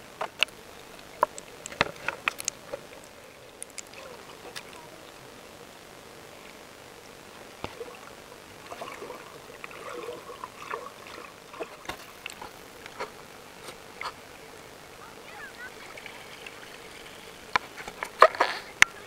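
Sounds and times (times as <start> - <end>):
water gurgling and bubbling: 0.0 - 19.0.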